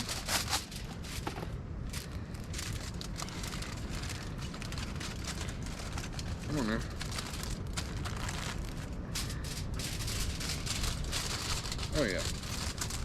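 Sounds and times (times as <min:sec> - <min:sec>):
aluminum foil crinkling: 0:00.0 - 0:01.3, 0:01.9 - 0:13.0
wind rumbling on microphone: 0:00.0 - 0:13.0.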